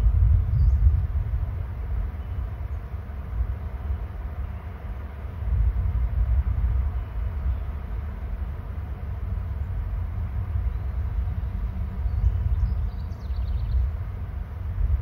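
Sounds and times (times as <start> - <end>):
wind buffeting microphone: 0.0 - 4.5, 5.3 - 15.0.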